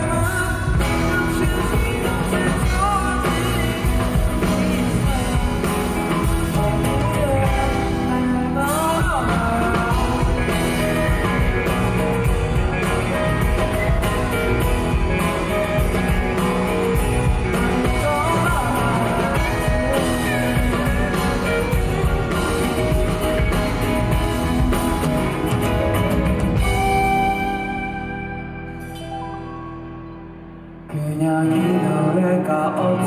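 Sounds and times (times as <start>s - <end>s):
steady drum beat: 0.0s - 27.7s
electric guitar: 0.0s - 33.0s
live band playing: 0.0s - 33.0s.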